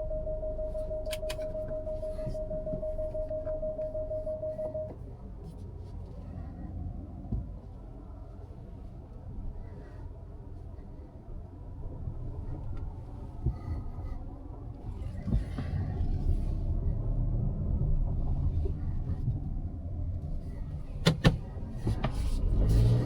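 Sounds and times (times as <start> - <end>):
engine and tyre rumble: 0.0 - 23.0.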